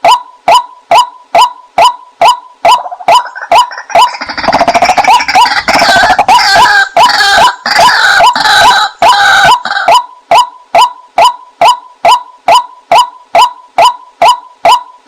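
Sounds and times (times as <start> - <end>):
waterhen calls: 0.0 - 14.9.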